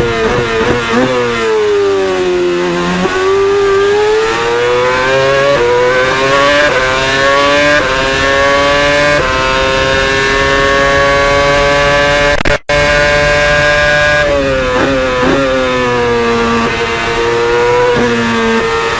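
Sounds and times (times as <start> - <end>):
racing car engine accelerating: 0.0 - 18.9.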